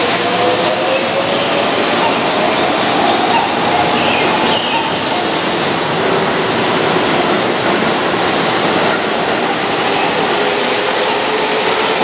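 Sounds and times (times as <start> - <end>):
electric train running: 0.0 - 12.0.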